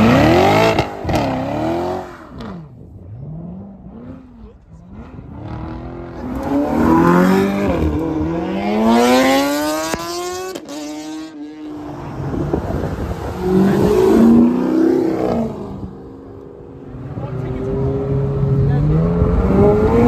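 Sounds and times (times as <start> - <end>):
sports car engine accelerating: 0.0 - 20.0.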